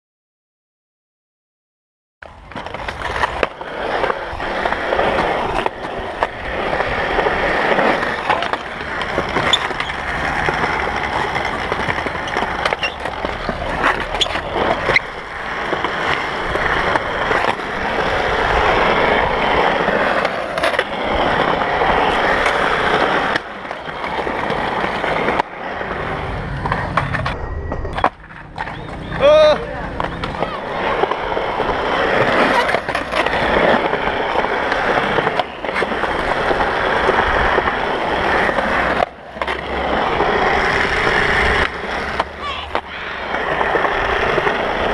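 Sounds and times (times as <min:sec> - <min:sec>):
skateboard clacks: 0:02.2 - 0:44.9
skateboard wheels rolling on concrete: 0:02.2 - 0:44.9.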